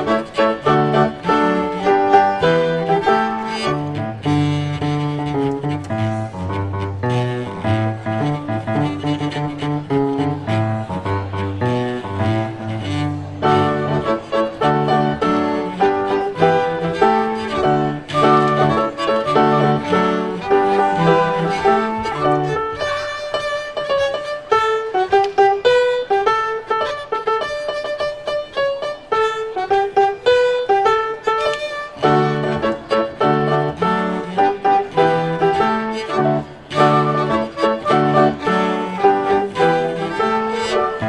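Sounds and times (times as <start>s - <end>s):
chamber ensemble playing: 0.0s - 41.0s.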